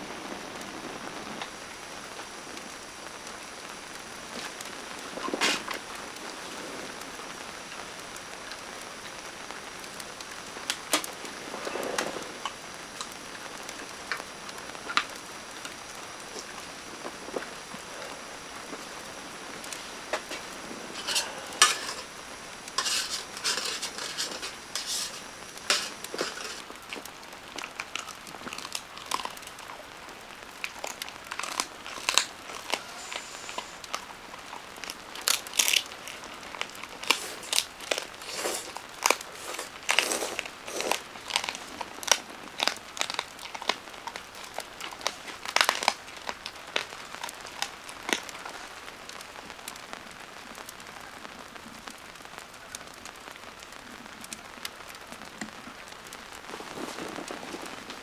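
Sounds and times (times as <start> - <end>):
crinkling and crackling: 0.0 - 58.0.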